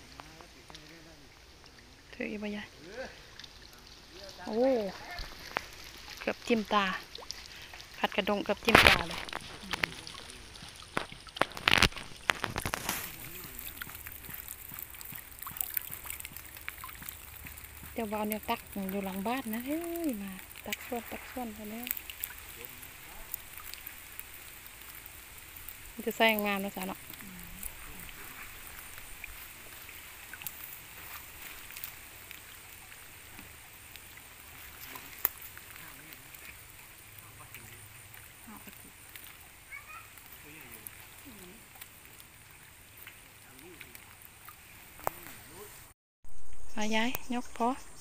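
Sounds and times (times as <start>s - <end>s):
water splashing and dripping: 0.0s - 47.8s
water trickling: 0.0s - 48.0s.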